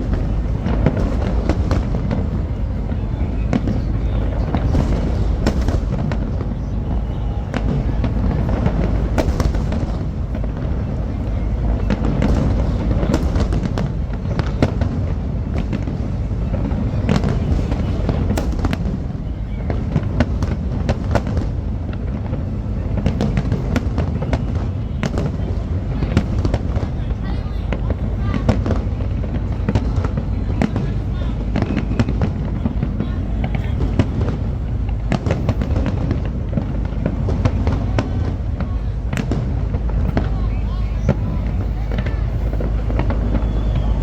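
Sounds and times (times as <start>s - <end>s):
fireworks crackles and pops: 0.0s - 44.0s
fireworks rumbling bursts: 0.0s - 44.0s.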